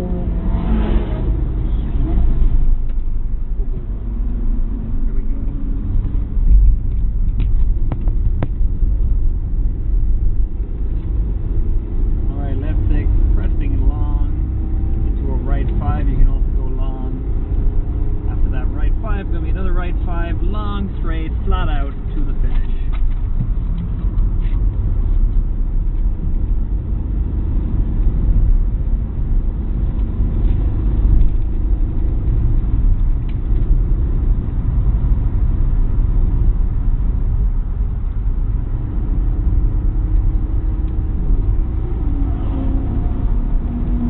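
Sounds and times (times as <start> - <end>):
car cabin rumble: 0.0 - 44.0.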